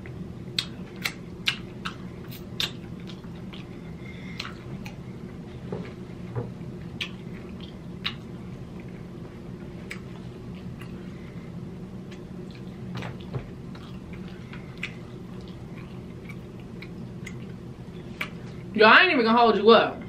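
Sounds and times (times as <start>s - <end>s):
chewing food with mouth smacks: 0.0s - 11.1s, 12.1s - 18.6s
low steady hum: 0.0s - 20.0s.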